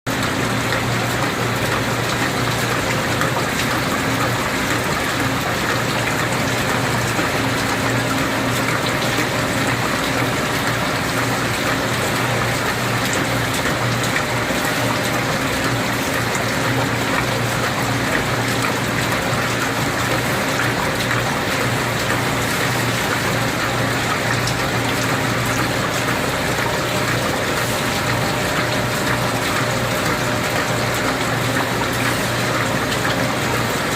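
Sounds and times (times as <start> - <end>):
coolant liquid rushing: 0.1 - 33.9
machine humming: 6.0 - 33.9.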